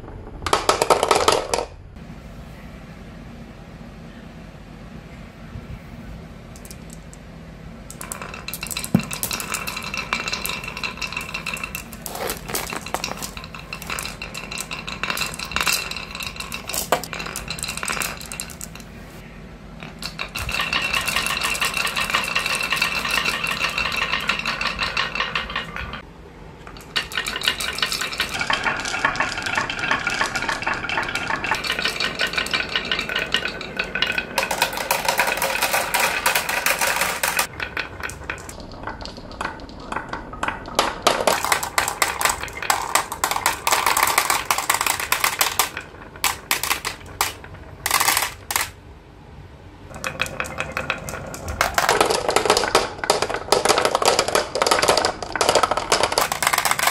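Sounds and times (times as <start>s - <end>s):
marbles clicking on wooden run: 0.4s - 1.7s, 7.9s - 19.0s, 19.8s - 48.8s, 49.9s - 56.9s.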